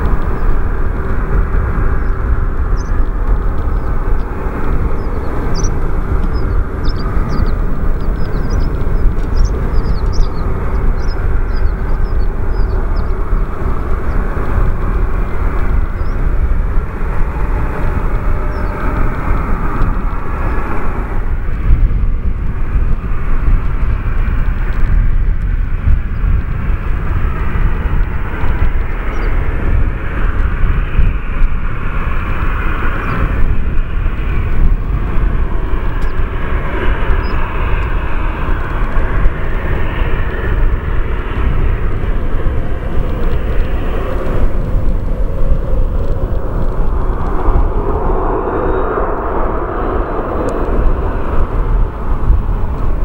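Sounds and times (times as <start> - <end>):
heavy low rumble: 0.0 - 53.0
jet engines roaring: 0.0 - 53.0.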